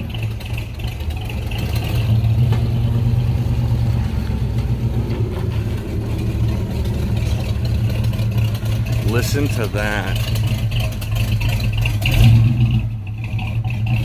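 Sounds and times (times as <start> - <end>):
car engine exhaust rumble: 0.0 - 14.0.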